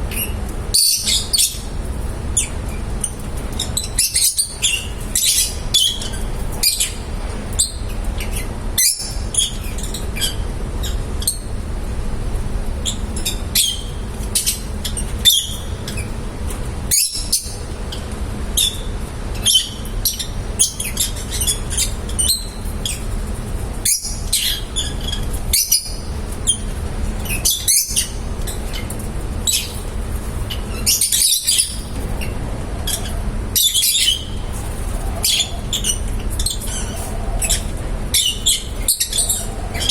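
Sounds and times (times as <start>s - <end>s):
lovebirds chirping: 0.1s - 1.8s, 2.4s - 11.5s, 12.8s - 16.2s, 18.6s - 39.9s.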